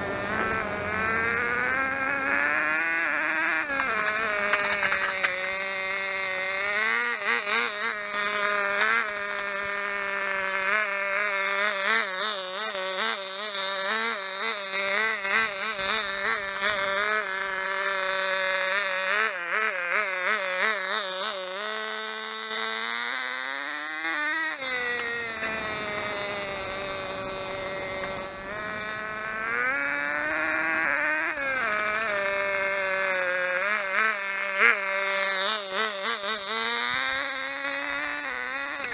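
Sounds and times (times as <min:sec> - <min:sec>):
model car engine revving: 0:00.0 - 0:38.9.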